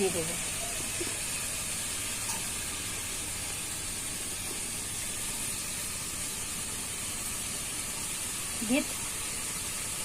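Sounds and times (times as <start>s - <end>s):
curry sizzling and simmering: 0.0s - 10.0s.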